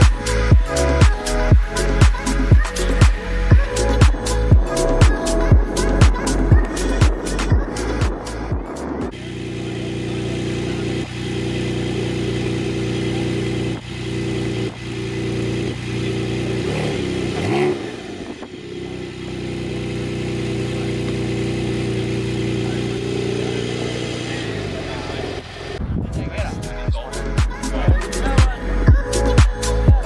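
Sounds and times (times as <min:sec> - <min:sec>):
car engine revving: 0:00.0 - 0:29.4
car engine idling: 0:00.0 - 0:30.0.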